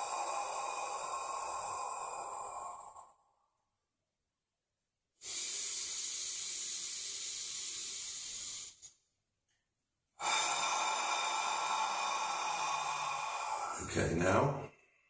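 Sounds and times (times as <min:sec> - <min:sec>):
man breathing slowly and deeply: 0:00.0 - 0:03.5, 0:05.2 - 0:09.0, 0:10.2 - 0:15.0.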